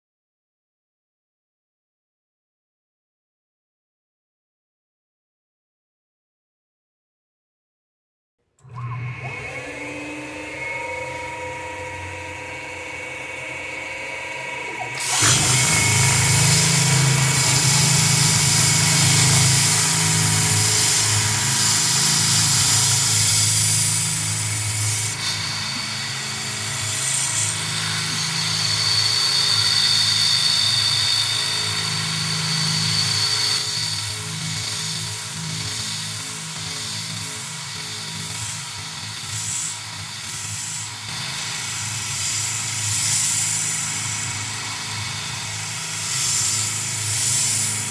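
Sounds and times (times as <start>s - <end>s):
milling machine cutting metal: 8.6s - 47.9s.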